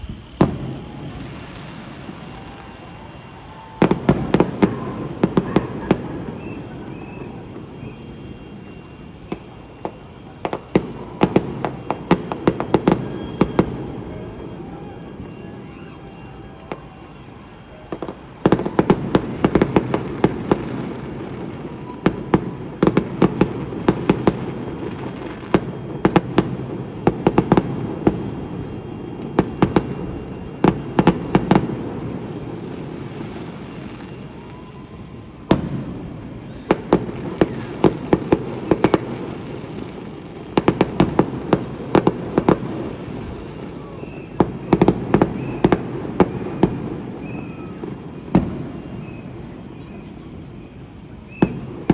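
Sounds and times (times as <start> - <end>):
fireworks bangs and cracks: 0.0 - 51.9.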